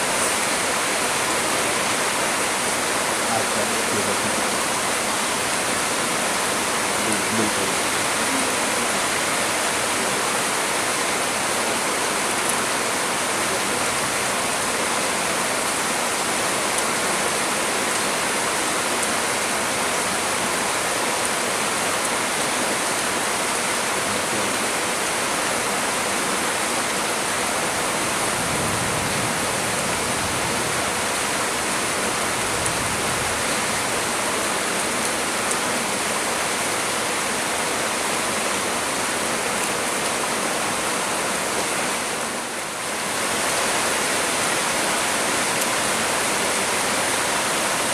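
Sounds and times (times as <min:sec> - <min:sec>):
heavy rain: 0:00.0 - 0:47.9
low gusts of wind: 0:00.0 - 0:47.9.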